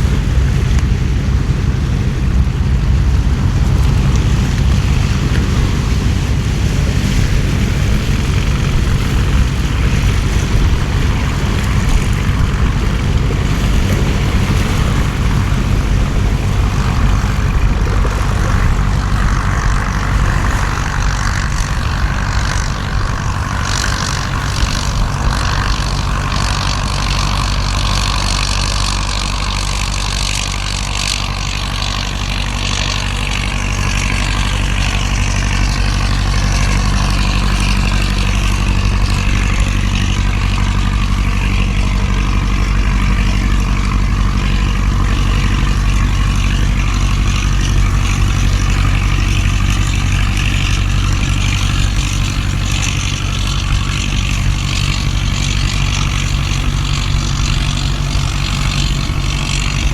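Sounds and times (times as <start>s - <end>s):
engine low drone: 0.0s - 59.9s.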